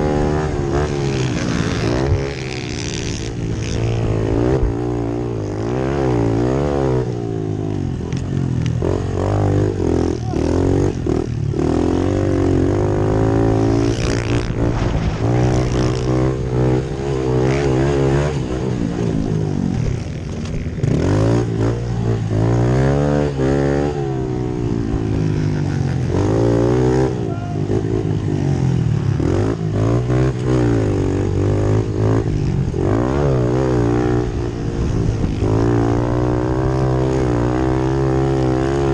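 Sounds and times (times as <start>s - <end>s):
motorbike engines revving: 0.0s - 38.9s.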